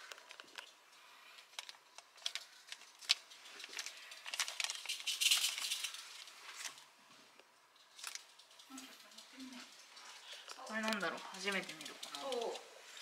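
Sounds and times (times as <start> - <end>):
foil sachets crinkling: 0.0 - 6.9, 7.8 - 13.0
light clicks and ticks: 0.0 - 12.7.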